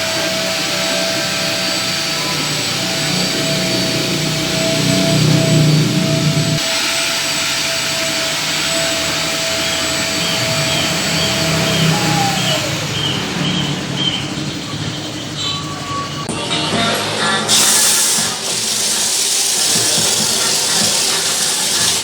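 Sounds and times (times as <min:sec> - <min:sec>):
loud rushing hiss: 0:00.0 - 0:15.1, 0:17.2 - 0:22.0
machine motor whine: 0:00.0 - 0:16.2, 0:17.5 - 0:22.0.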